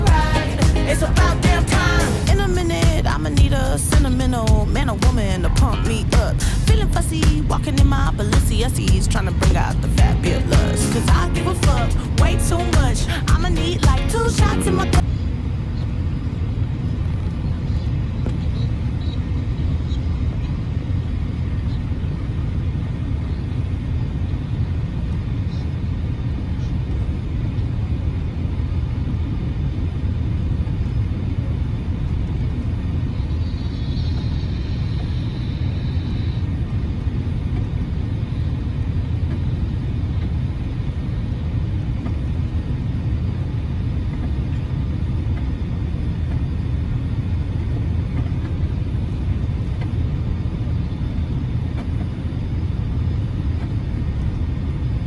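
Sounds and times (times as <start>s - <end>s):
faint high whine: 0.0s - 55.0s
low rumble of engines and airflow: 0.0s - 55.0s.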